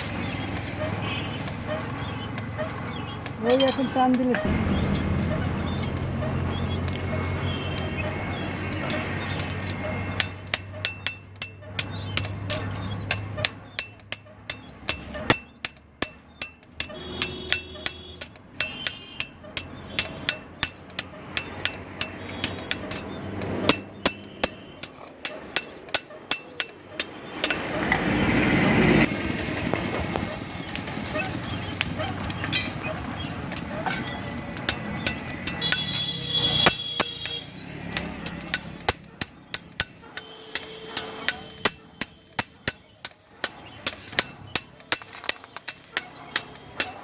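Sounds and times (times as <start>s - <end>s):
hammer striking steel on anvil: 1.7s - 28.2s, 32.4s - 47.0s.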